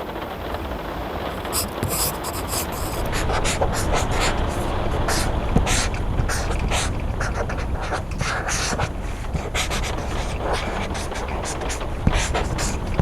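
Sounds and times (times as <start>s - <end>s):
rain: 0.0s - 13.0s
pencil scratching on paper: 1.3s - 13.0s.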